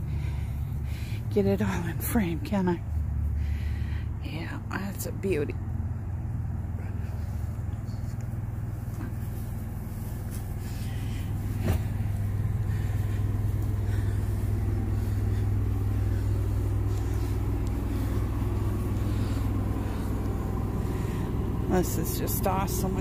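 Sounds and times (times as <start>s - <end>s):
engine rumbling: 0.0s - 23.0s.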